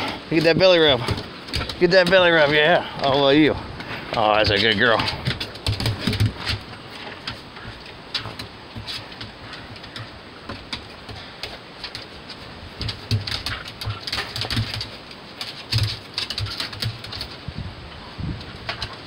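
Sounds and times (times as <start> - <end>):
paws scrabbling on wooden boards: 0.0 - 19.0.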